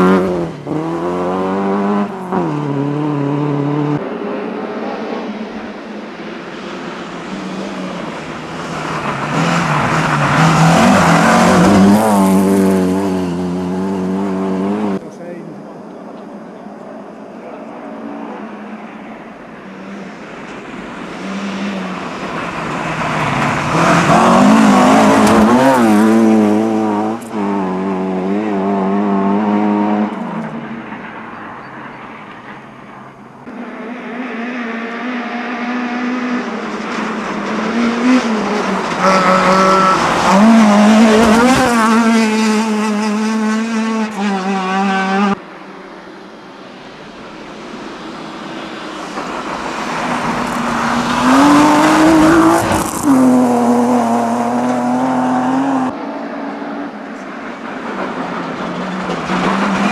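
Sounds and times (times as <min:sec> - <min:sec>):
rally car engines revving past: 0:00.0 - 0:16.1, 0:17.5 - 0:45.7, 0:47.2 - 0:59.9.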